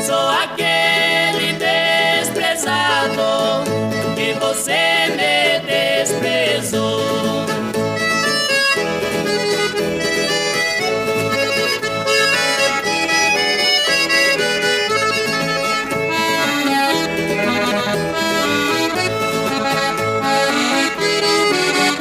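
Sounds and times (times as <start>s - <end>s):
accordion melody: 0.0s - 22.0s.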